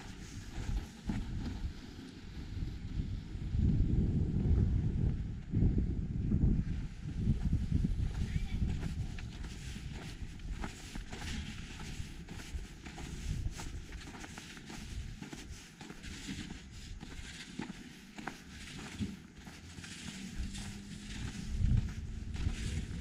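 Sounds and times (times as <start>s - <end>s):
footsteps crunching on snow: 0.0s - 2.6s, 6.8s - 23.0s.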